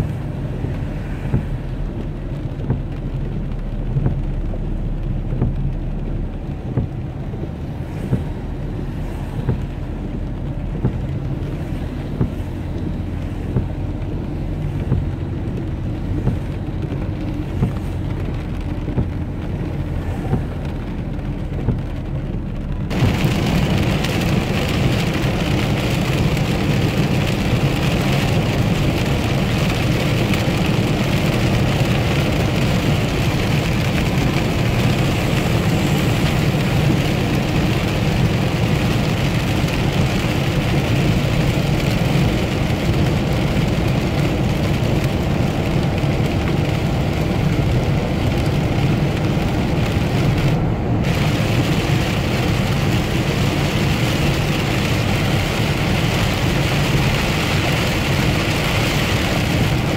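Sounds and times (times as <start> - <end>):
car engine and road rumble: 0.0 - 59.9
heavy rain and tyre spray: 0.0 - 59.9
windscreen wipers knocking: 0.0 - 59.9.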